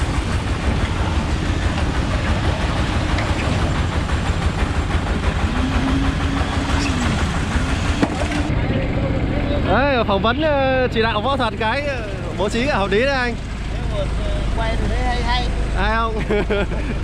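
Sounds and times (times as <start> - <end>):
heavy diesel machinery rumbling: 0.0 - 17.0.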